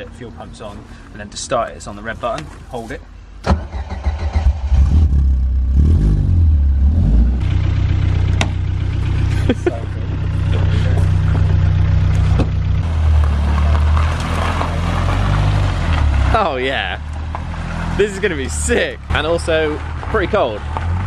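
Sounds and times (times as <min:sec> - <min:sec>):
car engine starting and idling: 0:03.4 - 0:21.0.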